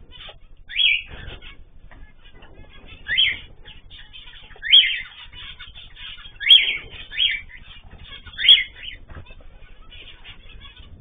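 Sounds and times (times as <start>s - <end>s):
sharp sweeping bird calls: 0.0s - 11.0s
small birds twittering: 0.0s - 11.0s.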